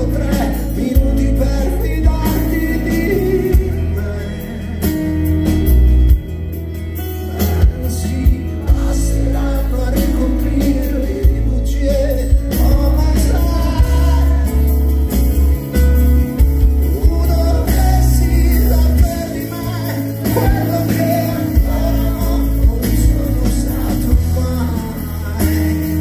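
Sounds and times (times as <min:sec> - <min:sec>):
man singing: 0:00.0 - 0:06.1, 0:07.0 - 0:26.0
acoustic guitar: 0:00.0 - 0:26.0
heavy bass: 0:00.0 - 0:26.0.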